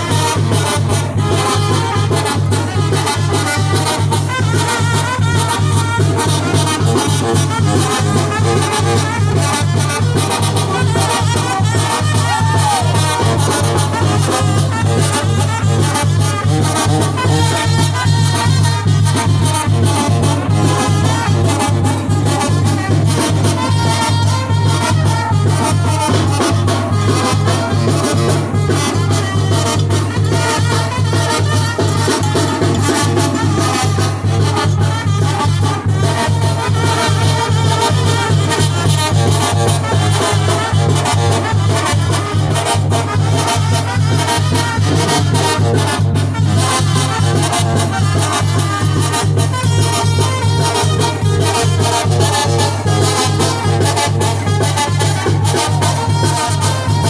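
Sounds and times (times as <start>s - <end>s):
latin dance music: 0.0s - 57.0s.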